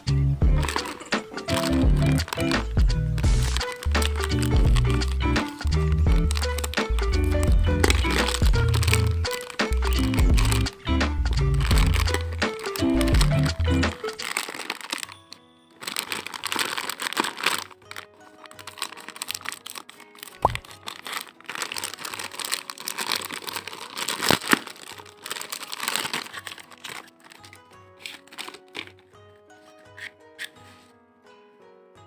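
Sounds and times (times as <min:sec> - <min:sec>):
quiet background music: 0:00.0 - 0:32.0
packaging crinkling and rustling: 0:00.6 - 0:31.0.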